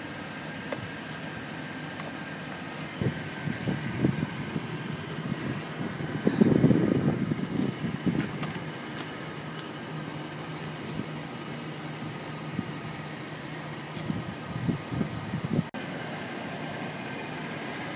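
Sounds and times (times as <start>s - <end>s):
vehicle engine idling: 0.0s - 17.9s.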